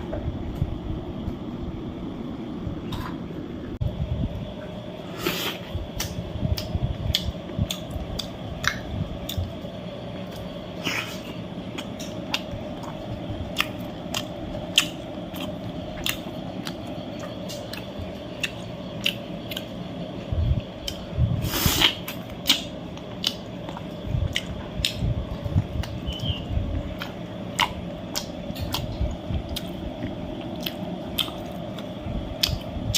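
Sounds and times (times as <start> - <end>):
steady low hum: 0.0 - 32.9
person chewing and crunching food: 5.0 - 32.9.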